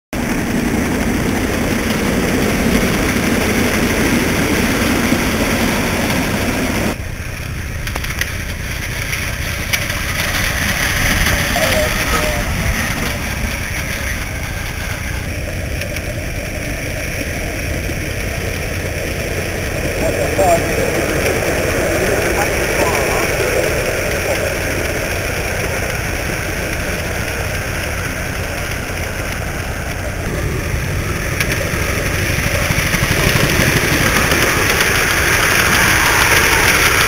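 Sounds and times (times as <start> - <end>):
model steam locomotive running: 0.2 - 37.0.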